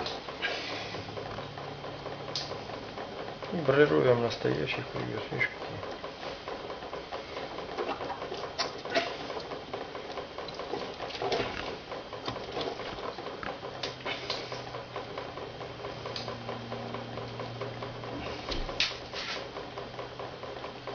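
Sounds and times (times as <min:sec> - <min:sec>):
plucking machine rattling: 0:00.0 - 0:20.9.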